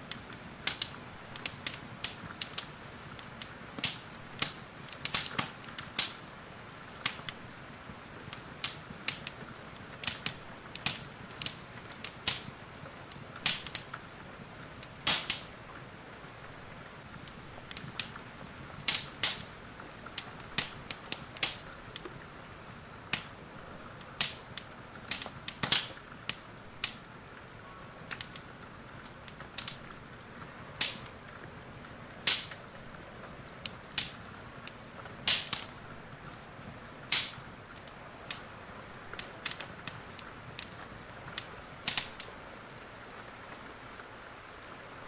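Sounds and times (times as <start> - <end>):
rain hiss: 0.0 - 45.0
wood fire crackling: 0.0 - 45.0.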